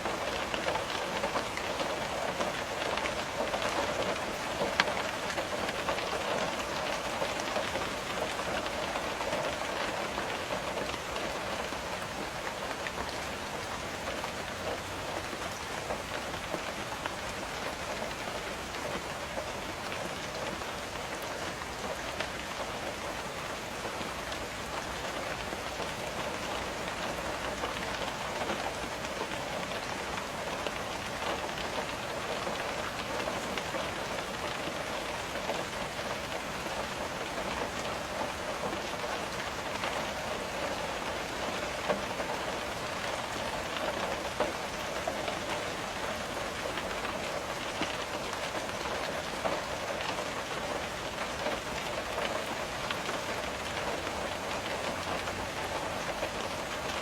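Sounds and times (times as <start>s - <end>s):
rain pattering on a window: 0.0s - 57.0s.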